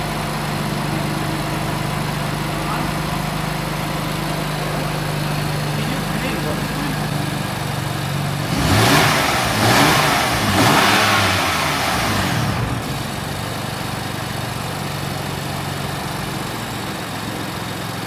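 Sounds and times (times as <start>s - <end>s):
car engine revving: 0.0s - 16.9s
car engine idling: 0.0s - 18.0s.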